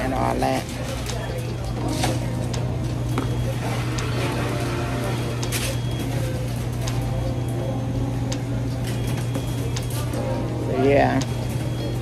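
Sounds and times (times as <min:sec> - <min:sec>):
faint voices: 0:00.0 - 0:12.0
low machine hum: 0:00.0 - 0:12.0.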